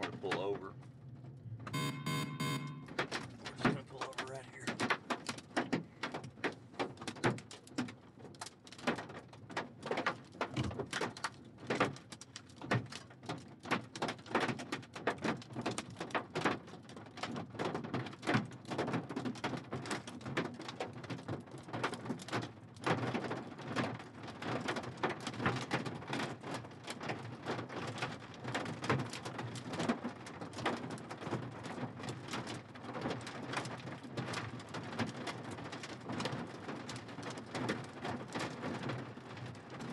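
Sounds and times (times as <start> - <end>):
hail and rain on vehicle: 0.0 - 1.2, 3.0 - 39.9.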